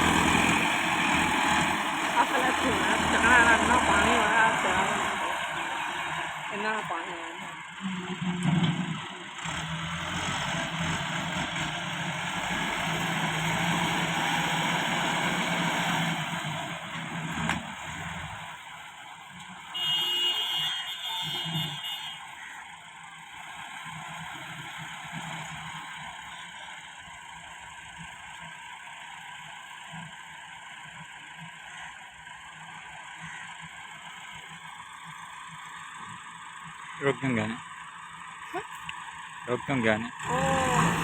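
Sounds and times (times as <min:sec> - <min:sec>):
truck engine humming: 0:00.0 - 0:41.0.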